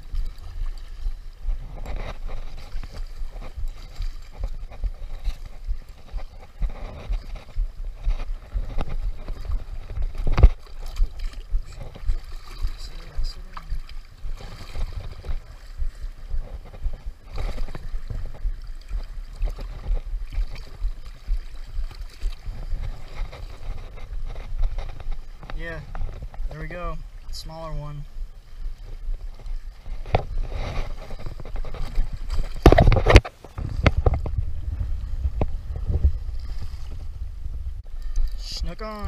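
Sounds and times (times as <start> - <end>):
water splashing over rocks: 0.0 - 39.0
wind buffeting microphone: 0.0 - 39.0.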